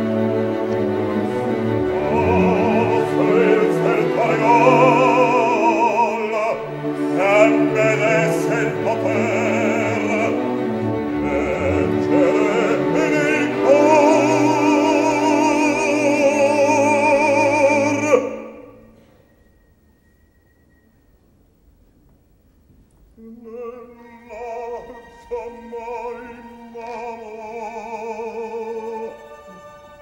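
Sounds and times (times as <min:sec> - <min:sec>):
orchestra: 0:00.0 - 0:30.0
bass voice singing opera: 0:01.1 - 0:18.8, 0:23.2 - 0:29.7.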